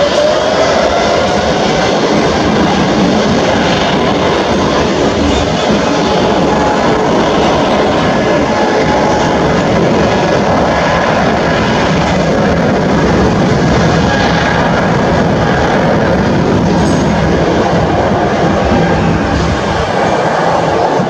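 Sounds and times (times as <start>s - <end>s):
jet engines at takeoff: 0.0s - 21.0s.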